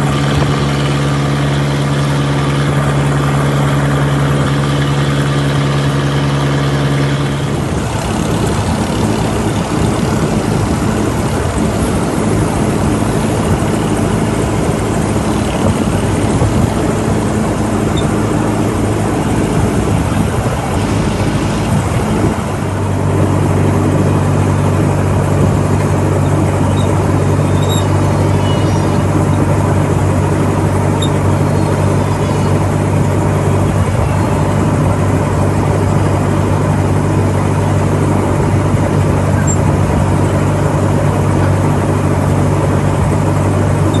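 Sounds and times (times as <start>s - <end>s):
motor engine running: 0.0s - 44.0s.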